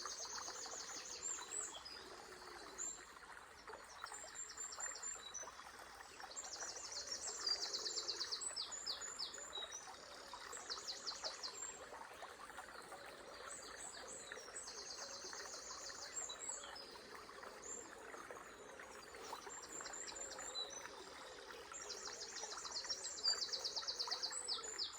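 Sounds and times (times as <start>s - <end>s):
flowing river water: 0.0s - 24.9s.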